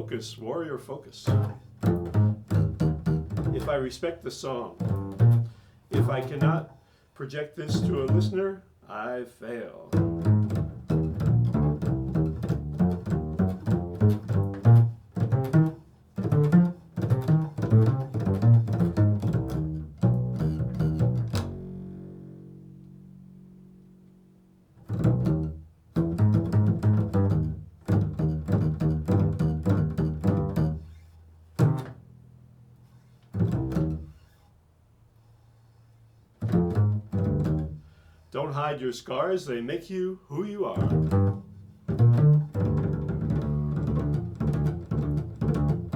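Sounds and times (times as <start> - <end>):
low plucked string instrument: 1.3 - 6.6, 7.7 - 8.4, 9.9 - 34.5, 36.4 - 37.8, 40.8 - 45.9.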